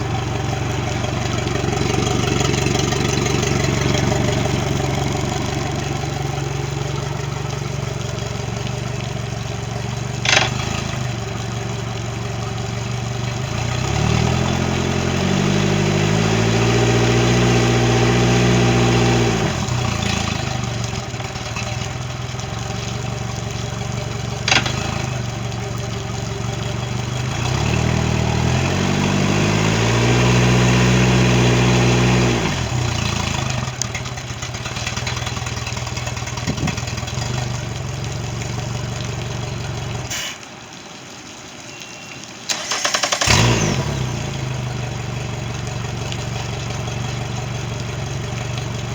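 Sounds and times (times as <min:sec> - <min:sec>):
outboard motor idling and revving: 0:00.0 - 0:40.2, 0:42.5 - 0:48.9.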